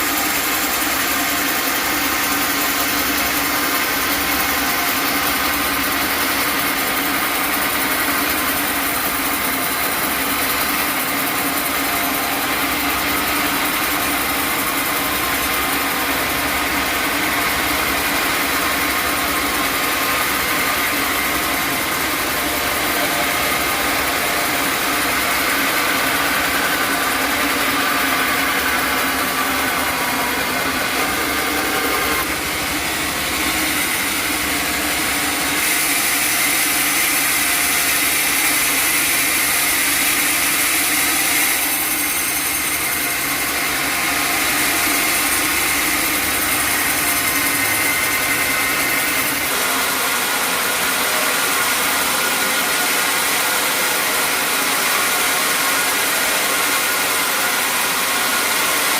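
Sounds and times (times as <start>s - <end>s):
saw hissing: 0.0s - 58.9s
sawmill engine running: 0.0s - 58.9s.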